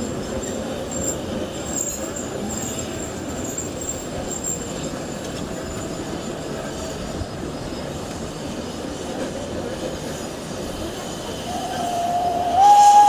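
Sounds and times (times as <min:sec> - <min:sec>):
train carriages rumbling on rails: 0:00.0 - 0:13.0.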